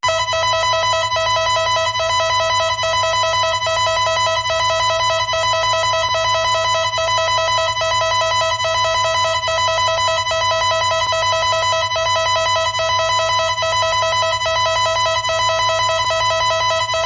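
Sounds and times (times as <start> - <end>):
buzzy two-pitch alarm tone: 0.0 - 17.0.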